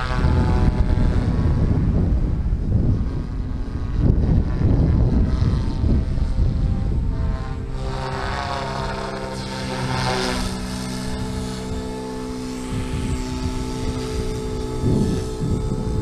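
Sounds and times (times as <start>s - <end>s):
rc helicopter humming: 0.0s - 16.0s.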